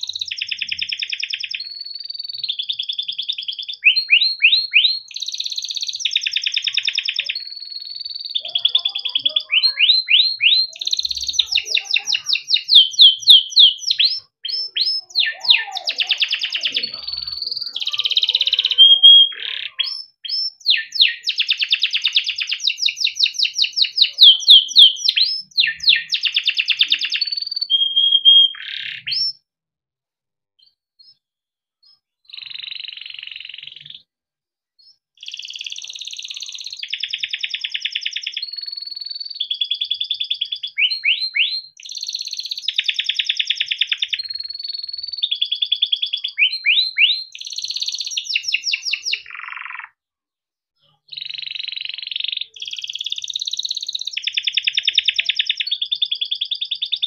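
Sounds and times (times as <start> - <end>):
canary singing trills: 0.0 - 29.4, 31.8 - 34.1, 34.8 - 50.0, 50.8 - 57.0.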